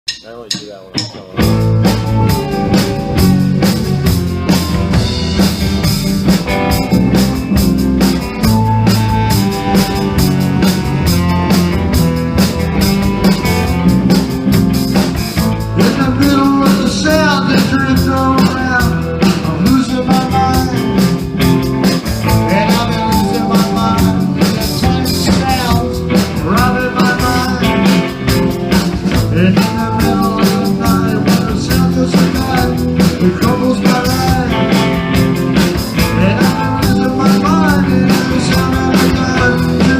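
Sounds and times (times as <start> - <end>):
rock band playing: 0.1 - 39.9.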